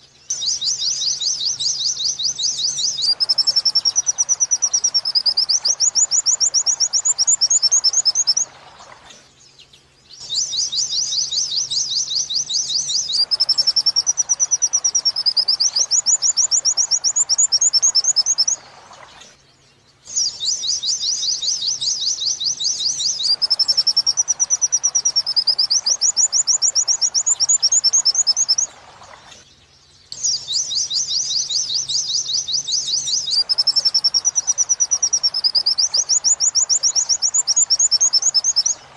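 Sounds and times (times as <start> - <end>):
bird song recording: 0.0 - 38.9.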